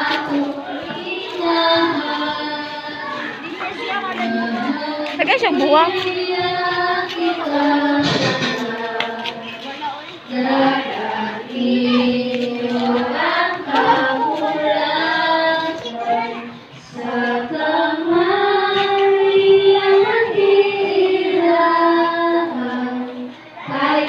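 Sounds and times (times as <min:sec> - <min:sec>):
children singing together: 0:00.0 - 0:05.2, 0:05.8 - 0:09.6, 0:10.2 - 0:24.0.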